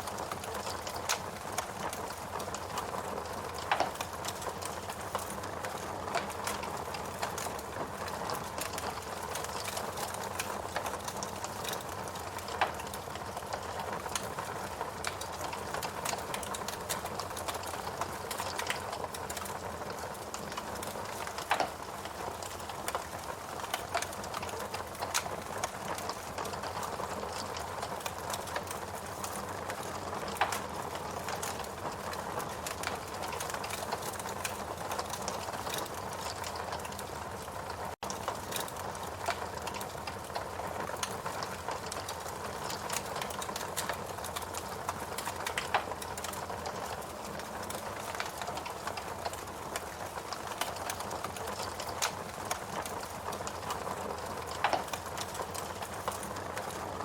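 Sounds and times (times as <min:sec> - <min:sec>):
wood logs burning with crackles: 0:00.0 - 0:57.0.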